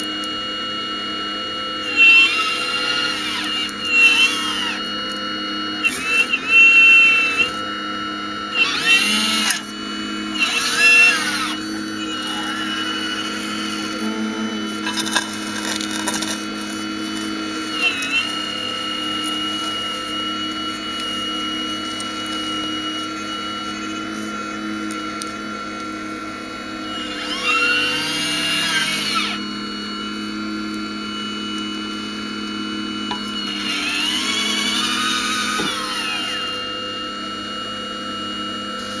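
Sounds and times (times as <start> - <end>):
model excavator motors whining: 0.0 - 39.0.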